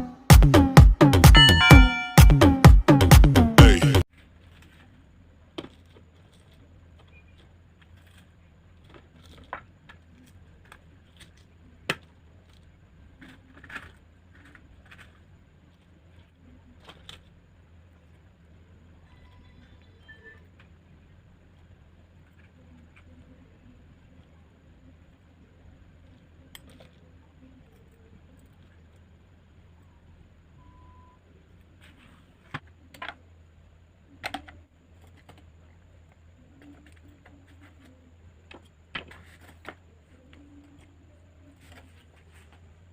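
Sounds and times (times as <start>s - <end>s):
faint low hum: 4.0s - 42.9s.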